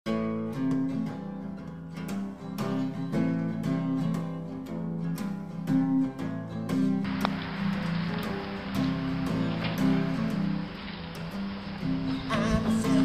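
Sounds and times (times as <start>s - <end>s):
acoustic guitar music: 0.1s - 13.0s.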